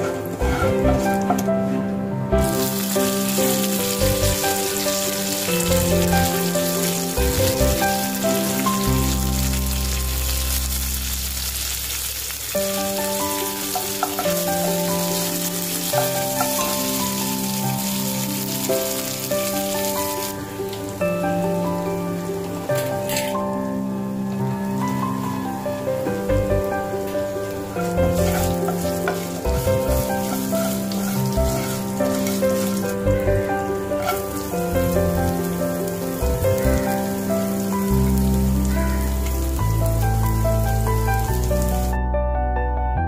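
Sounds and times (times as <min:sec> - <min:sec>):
instrumental music: 0:00.0 - 0:11.8, 0:12.4 - 0:43.0
hot oil sizzling in a pan: 0:02.4 - 0:42.0.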